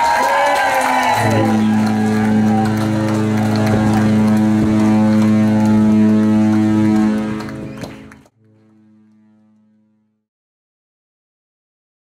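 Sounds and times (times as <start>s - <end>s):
loud low droning tone: 0.3s - 10.2s.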